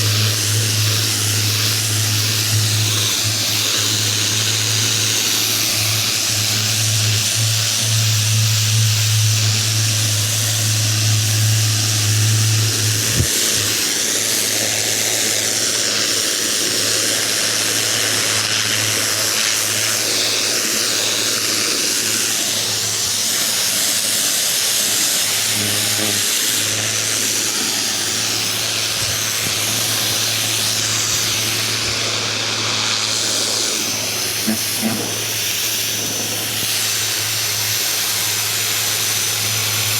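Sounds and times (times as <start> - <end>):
pressure washer motor humming: 0.0 - 39.9
water jet spraying hiss: 0.0 - 39.9.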